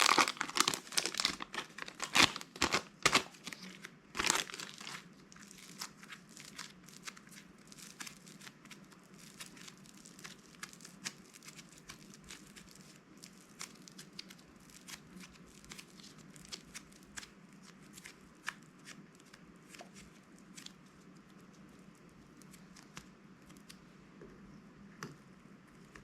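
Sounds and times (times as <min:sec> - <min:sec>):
hands squishing crunchy slime: 0:00.0 - 0:23.7.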